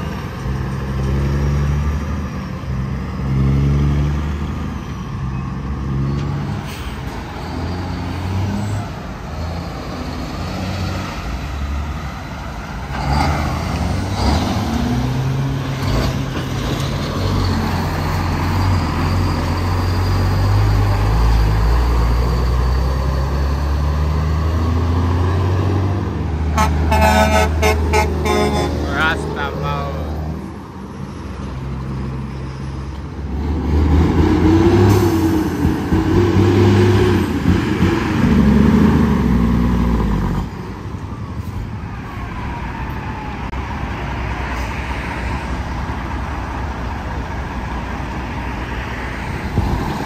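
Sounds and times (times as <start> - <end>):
diesel trucks accelerating: 0.0 - 50.0
road traffic noise: 0.0 - 50.0.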